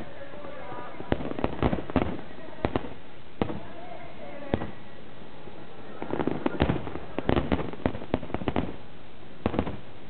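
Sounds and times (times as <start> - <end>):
fireworks bursting with sharp bangs: 0.0 - 10.0.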